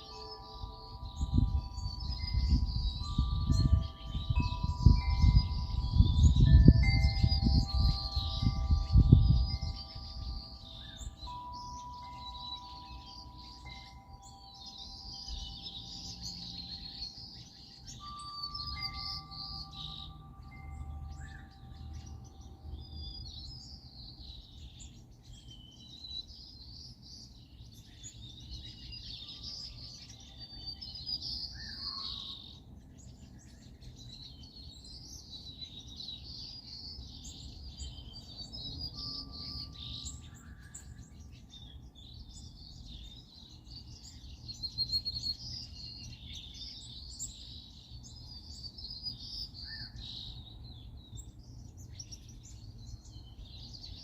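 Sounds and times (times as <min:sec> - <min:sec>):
songbirds chirping and twittering: 0:00.0 - 0:54.0.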